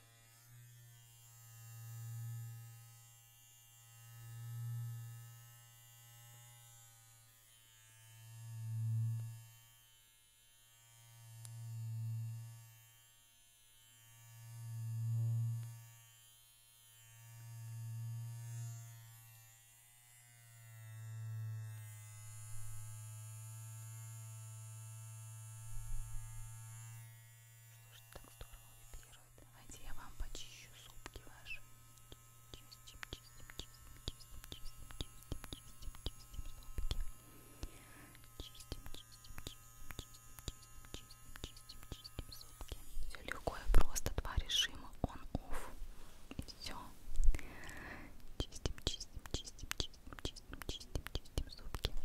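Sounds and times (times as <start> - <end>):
electric toothbrush buzzing: 0.0 - 44.7, 46.7 - 52.0.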